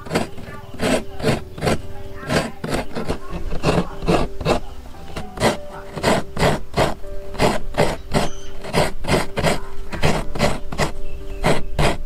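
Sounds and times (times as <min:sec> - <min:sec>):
coconut scraping on blade: 0:00.0 - 0:12.0.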